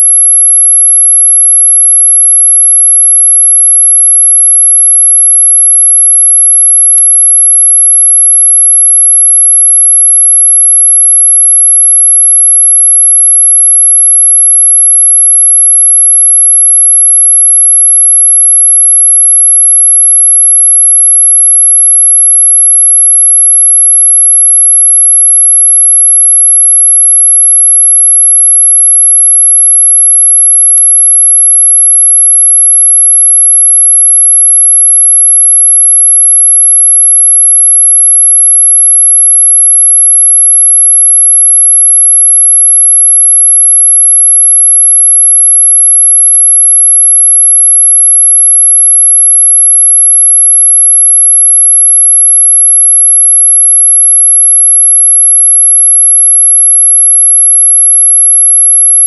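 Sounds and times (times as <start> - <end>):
high-pitched sine tone: 0.0 - 59.0.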